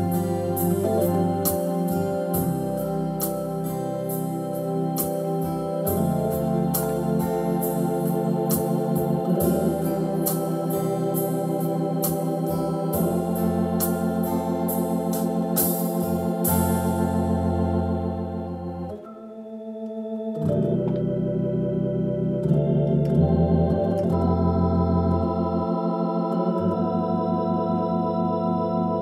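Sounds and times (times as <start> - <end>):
bass line: 0.0 - 19.0, 20.4 - 29.0
organ chords: 0.0 - 29.0.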